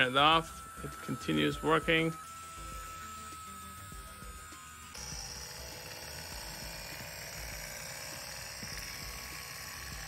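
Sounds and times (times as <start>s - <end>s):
spinning flywheel whirring: 0.0s - 10.0s.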